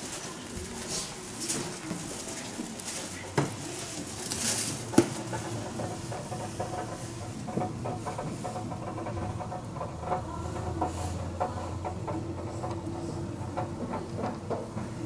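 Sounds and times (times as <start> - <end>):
faint murmur: 0.0 - 15.0.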